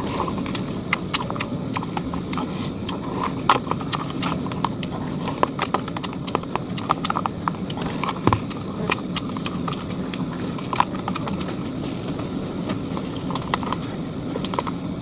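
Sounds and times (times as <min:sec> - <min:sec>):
low background hum: 0:00.0 - 0:15.0
person chewing noodles: 0:00.0 - 0:15.0.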